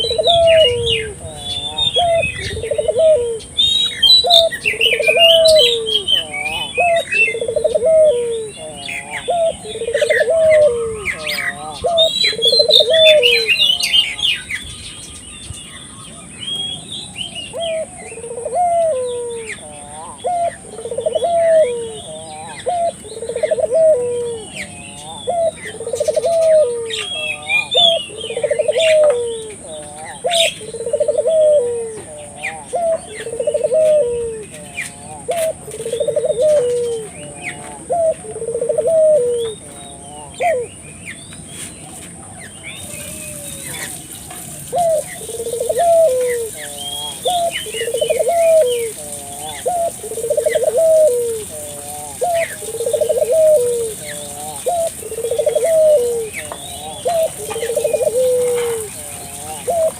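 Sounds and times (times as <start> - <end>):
doves cooing: 0.0 - 15.4, 16.1 - 59.9
small birds chirping: 0.0 - 59.9.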